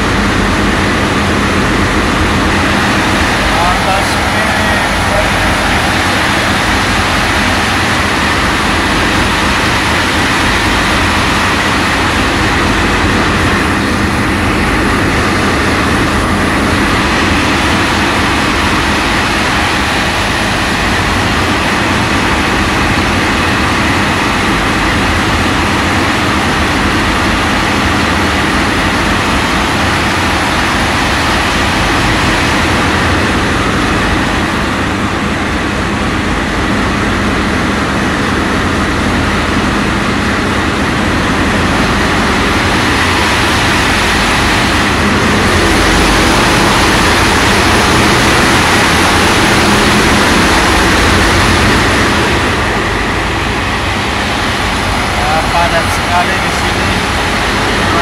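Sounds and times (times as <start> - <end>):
boat engine droning: 0.0 - 58.0
wind and water rushing: 0.0 - 58.0.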